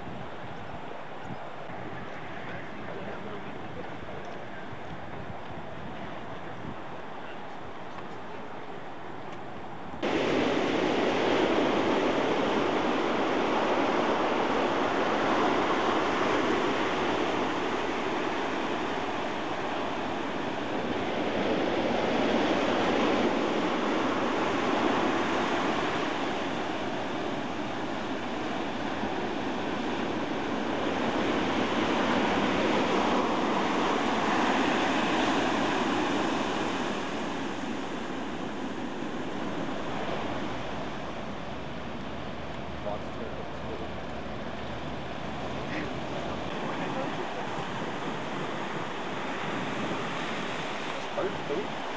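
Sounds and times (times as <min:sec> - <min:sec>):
surf breaking on a sandy beach: 0:00.0 - 0:51.9.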